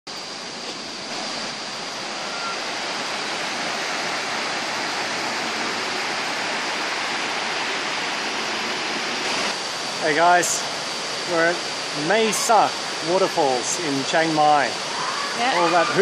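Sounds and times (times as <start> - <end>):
waterfall rushing over rocks: 0.1 - 16.0.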